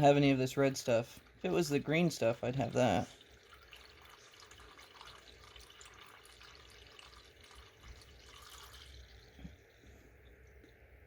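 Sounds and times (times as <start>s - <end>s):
liquid trickling through a funnel: 0.0s - 11.0s.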